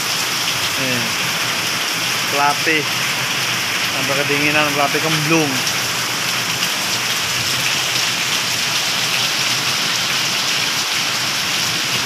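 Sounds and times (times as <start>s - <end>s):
heavy rain hitting ground: 0.0s - 12.0s.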